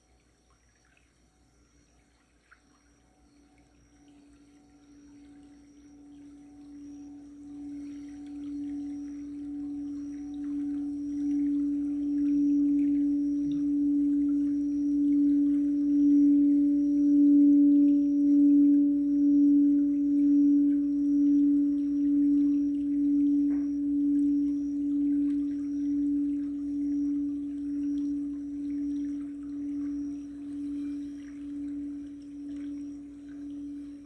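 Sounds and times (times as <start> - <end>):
singing bowl low tone: 0.0 - 34.0.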